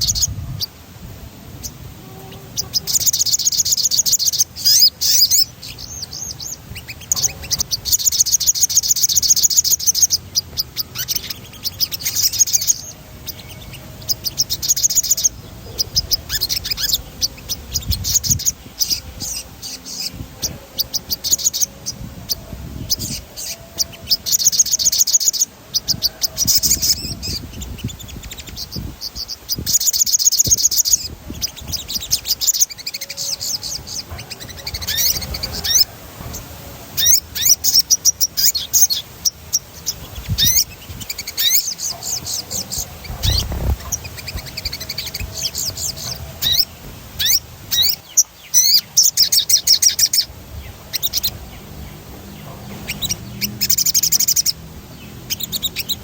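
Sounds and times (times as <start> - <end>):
songbird trilling: 0.0 - 0.8, 1.6 - 56.0.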